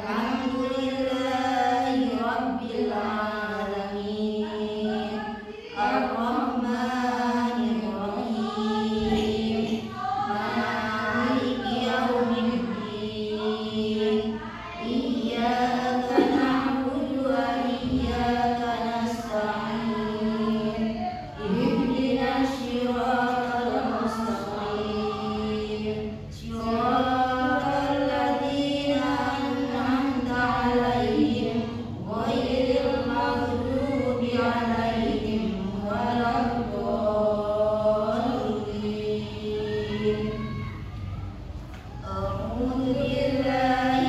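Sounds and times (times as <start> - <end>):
women chanting: 0.0 - 44.0.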